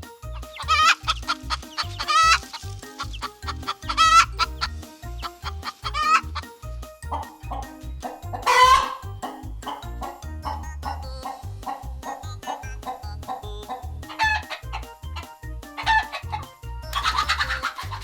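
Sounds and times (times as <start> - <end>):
background music with steady beat: 0.0 - 18.0
chicken clucking: 0.4 - 18.0.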